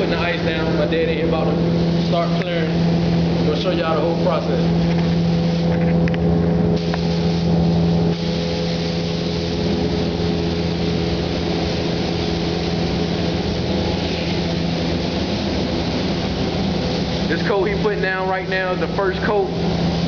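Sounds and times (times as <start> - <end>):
ventilation fan humming: 0.0 - 20.0.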